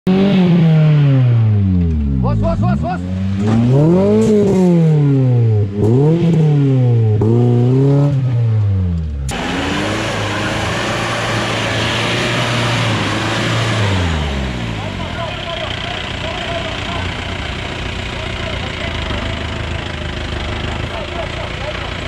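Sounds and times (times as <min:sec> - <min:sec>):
jeep engine running: 0:00.1 - 0:22.0
off-road engine revving: 0:00.1 - 0:22.0.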